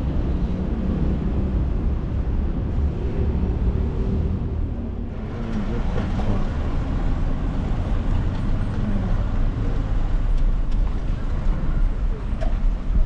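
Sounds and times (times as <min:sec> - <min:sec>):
heavy traffic rumble: 0:00.0 - 0:13.0.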